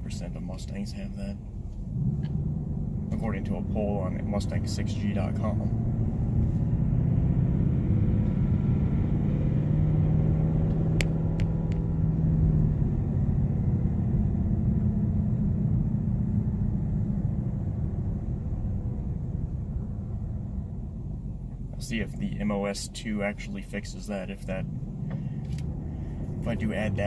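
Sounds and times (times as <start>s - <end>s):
car engine drone: 0.0s - 27.0s
road noise: 0.0s - 27.0s.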